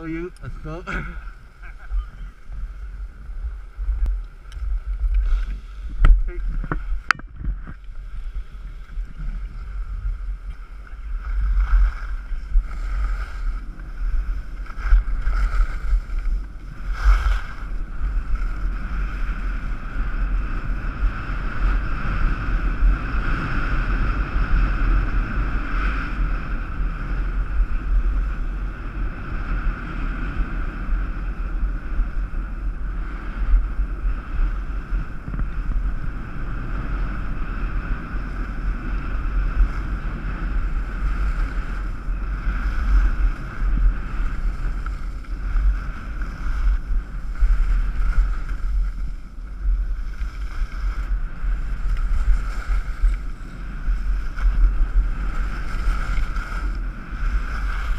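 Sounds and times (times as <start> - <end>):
skis scraping over snow: 0.0 - 57.9
wind buffeting microphone: 0.0 - 57.9.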